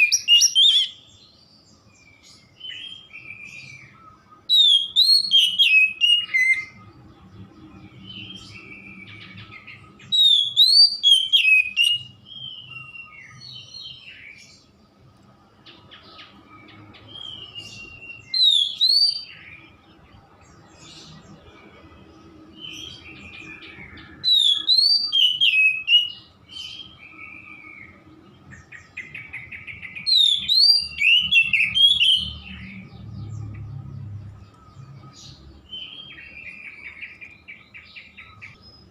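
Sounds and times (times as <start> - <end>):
bird whistled song: 0.0 - 6.9, 7.8 - 14.7, 15.9 - 19.8, 22.5 - 33.6, 34.5 - 38.9
quiet bird chirps: 0.0 - 38.9.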